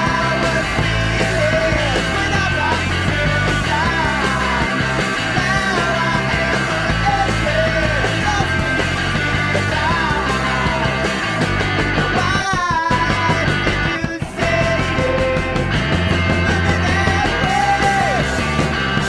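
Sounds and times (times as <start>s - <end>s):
rock music: 0.0s - 19.0s.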